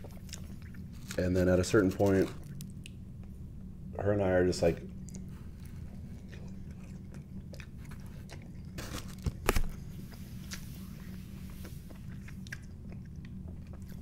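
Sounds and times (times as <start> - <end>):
chewing crunchy food: 0.0 - 3.4, 4.8 - 14.0
steady low hum: 0.0 - 14.0.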